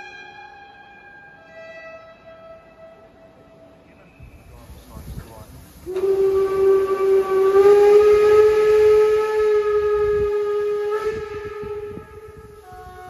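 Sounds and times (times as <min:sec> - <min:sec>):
steam locomotive whistle: 0:00.0 - 0:04.9, 0:05.8 - 0:13.0.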